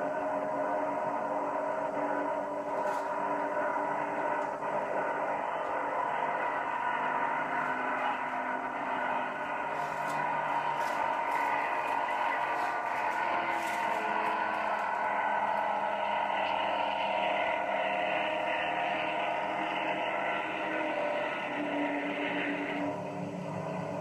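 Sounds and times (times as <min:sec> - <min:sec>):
powerboat engines droning: 0:00.0 - 0:24.0.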